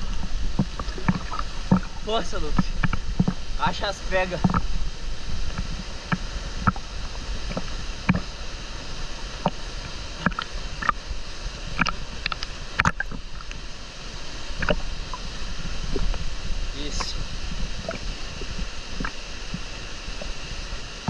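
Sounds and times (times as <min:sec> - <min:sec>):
pool water lapping and sloshing: 0:00.0 - 0:21.0.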